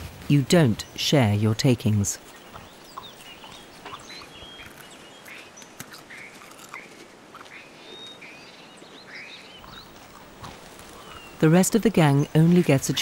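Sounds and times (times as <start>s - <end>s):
birds chirping: 0.3s - 13.0s.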